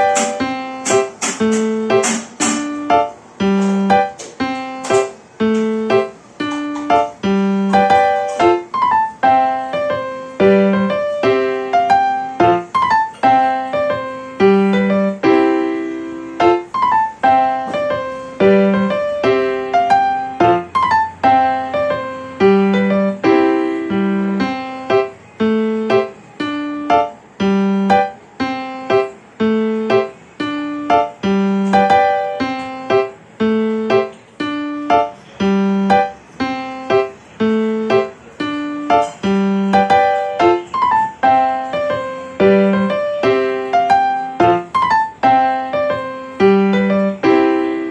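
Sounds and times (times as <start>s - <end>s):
piano music: 0.0s - 47.9s.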